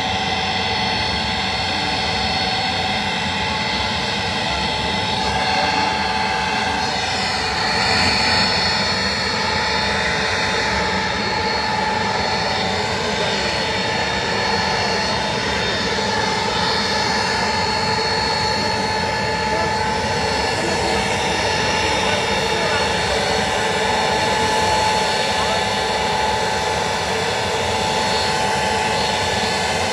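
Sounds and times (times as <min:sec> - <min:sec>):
jet engines whining: 0:00.0 - 0:29.9.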